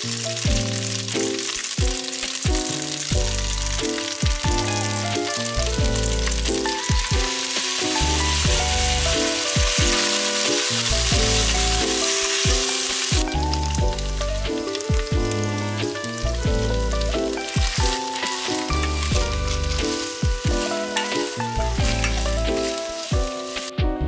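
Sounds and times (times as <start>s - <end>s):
noodles sizzling in frying pan: 0.0s - 23.8s
background music: 0.0s - 24.0s
wooden spatula stirring: 4.0s - 23.7s.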